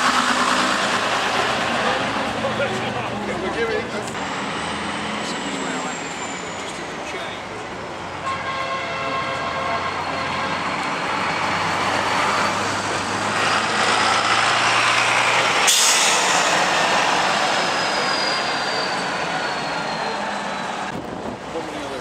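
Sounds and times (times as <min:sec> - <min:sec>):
bus engine: 0:00.0 - 0:22.0.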